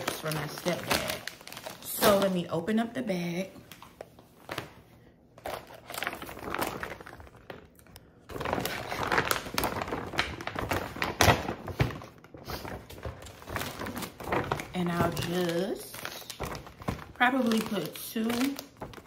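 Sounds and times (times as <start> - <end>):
paper bag rustling: 0.0 - 2.5, 5.4 - 19.0.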